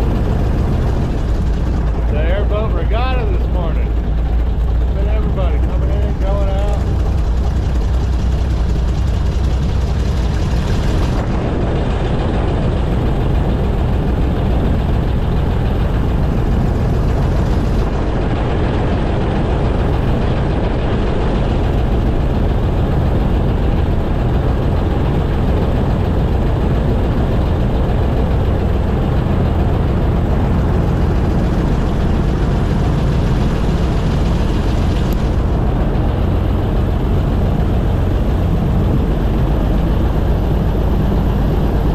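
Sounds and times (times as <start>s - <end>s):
airboat engine and propeller drone: 0.0s - 41.9s.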